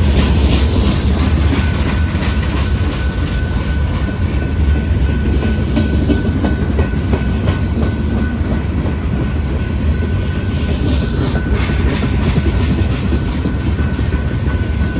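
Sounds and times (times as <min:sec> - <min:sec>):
train wheel clicks: 0:00.0 - 0:09.4, 0:10.0 - 0:14.9
freight train cars rumbling: 0:00.0 - 0:14.9.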